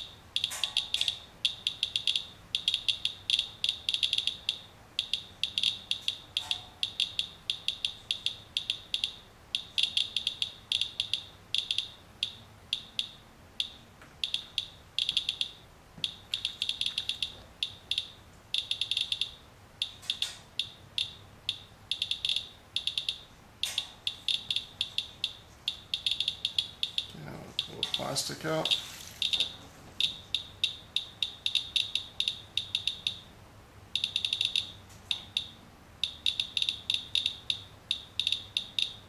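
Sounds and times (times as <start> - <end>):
geiger counter clicking: 0.0 - 33.3, 33.9 - 39.0.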